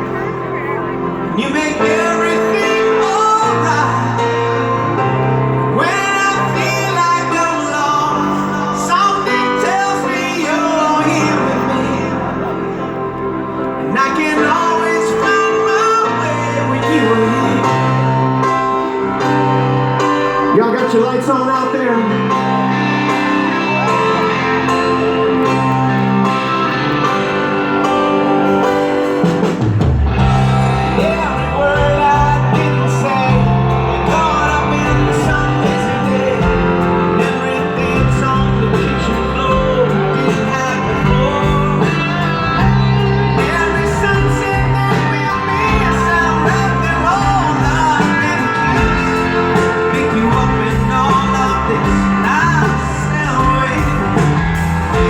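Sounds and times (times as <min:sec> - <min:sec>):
bass: 0:00.0 - 0:55.0
guitar: 0:00.0 - 0:55.0
person singing: 0:00.0 - 0:55.0
rock band playing a ballad: 0:00.0 - 0:55.0.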